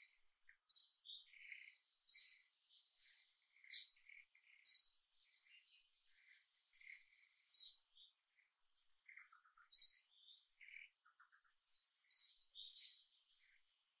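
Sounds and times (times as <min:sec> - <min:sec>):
loud high bird chirp: 0:00.0 - 0:08.2, 0:09.0 - 0:13.6
soft low bird chirps: 0:00.0 - 0:14.0.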